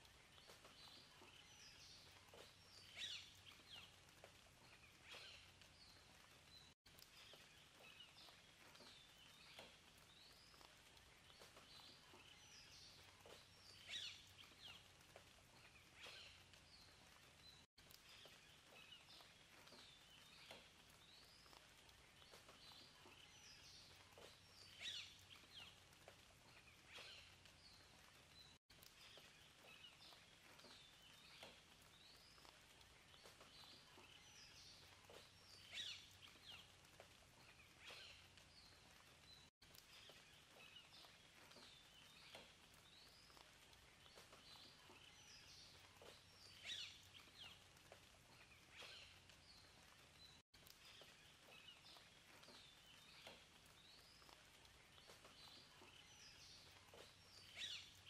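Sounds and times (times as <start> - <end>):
soft outdoor hiss: 0.0 - 58.0
birdsong chirps and whistles: 0.1 - 58.0.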